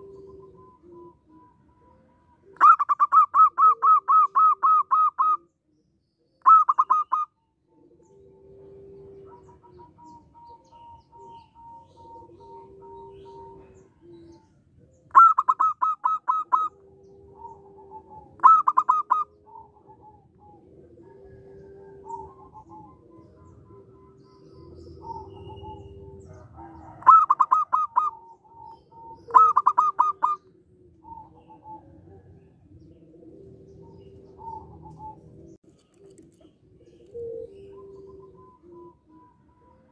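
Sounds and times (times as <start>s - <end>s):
dove high repeated notes: 0.0s - 5.6s, 6.4s - 39.9s
dove soft low cooing: 0.0s - 39.9s.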